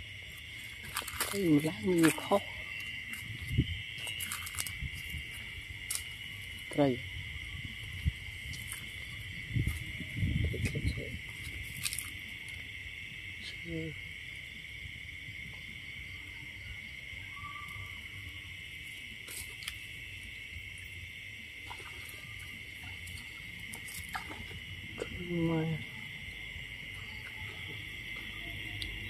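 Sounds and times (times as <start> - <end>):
night insects trilling: 0.0 - 29.0.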